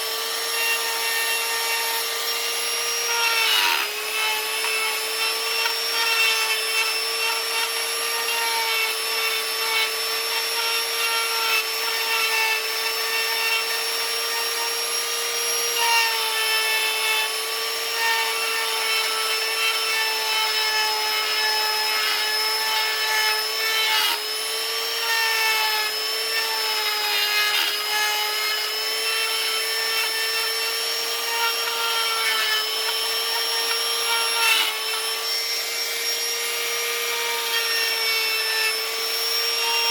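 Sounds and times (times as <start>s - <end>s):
power carving tool grinding wood: 0.0s - 39.9s.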